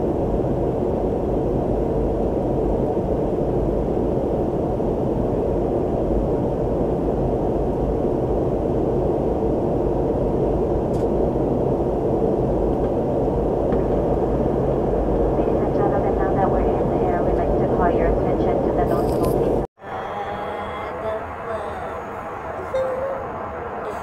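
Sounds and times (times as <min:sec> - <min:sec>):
airliner cabin engine drone: 0:00.0 - 0:24.0.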